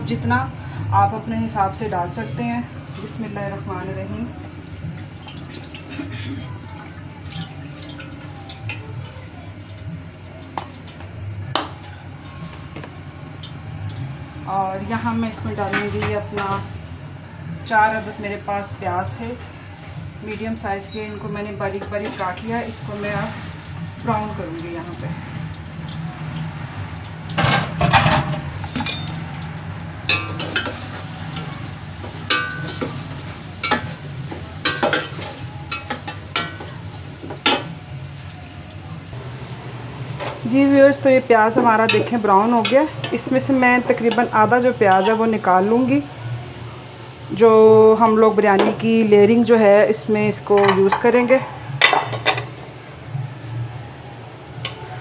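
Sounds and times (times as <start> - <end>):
onions sizzling in oil: 0.0 - 49.1.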